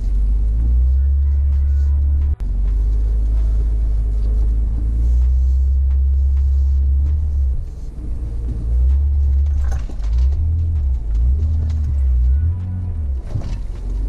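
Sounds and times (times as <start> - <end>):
tyres on rough dirt trail: 0.0 - 14.0
vehicle engine rumble: 0.0 - 14.0.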